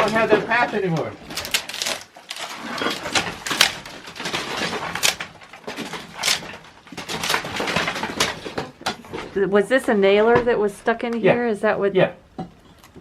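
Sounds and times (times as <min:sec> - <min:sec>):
wood cracking: 0:00.0 - 0:10.6
wood scraping and creaking: 0:00.0 - 0:11.4.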